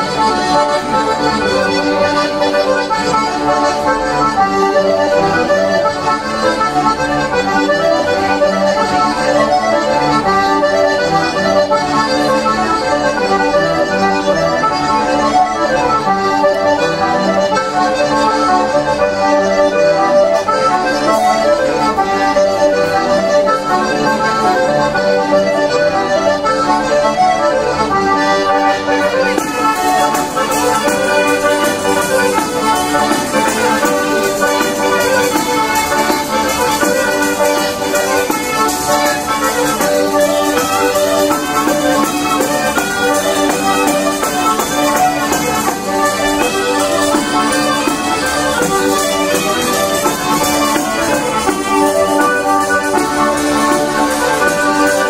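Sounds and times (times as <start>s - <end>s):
button accordions playing folk music: 0.0s - 55.0s
folk pipes: 0.0s - 55.0s.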